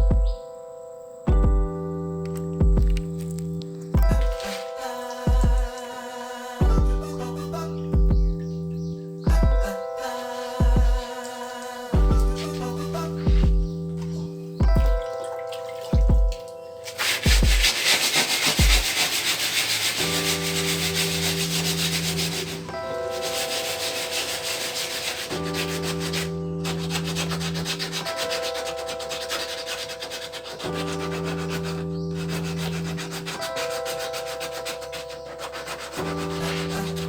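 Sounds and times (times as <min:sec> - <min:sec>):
background music: 0:00.0 - 0:37.0.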